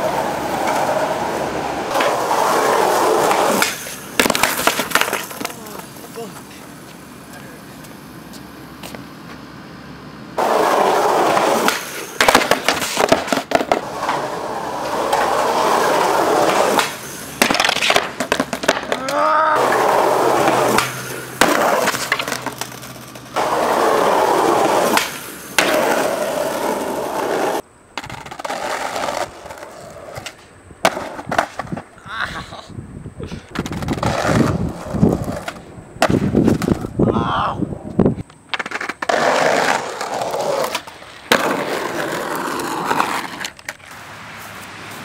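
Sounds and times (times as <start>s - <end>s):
skateboard popping and landing: 0.0s - 6.5s, 10.4s - 32.0s, 33.5s - 37.0s, 38.2s - 44.0s
skateboard wheels rolling on concrete: 0.0s - 45.0s.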